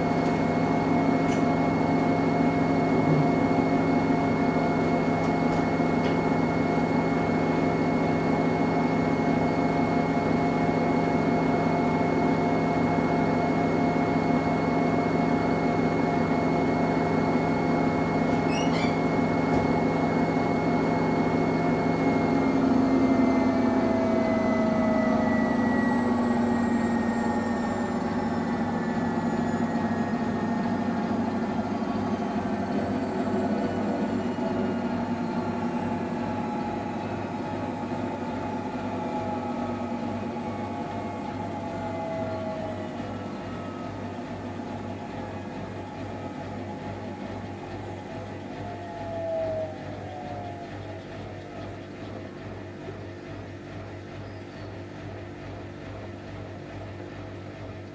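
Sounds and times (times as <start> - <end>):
faint motor whine: 0.0 - 57.9
washing machine running: 0.0 - 57.9.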